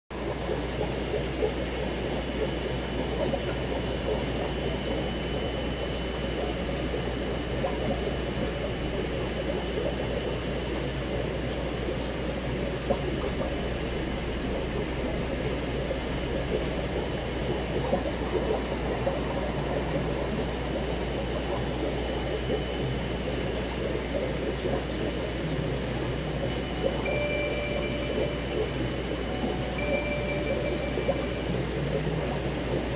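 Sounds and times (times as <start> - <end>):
aquarium water bubbling: 0.1 - 32.9
low electrical hum: 0.2 - 32.9.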